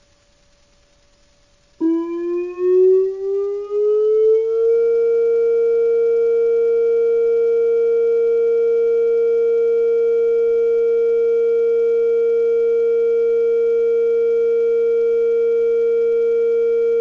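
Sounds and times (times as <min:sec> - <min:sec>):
electronic siren tone: 0:01.8 - 0:17.0.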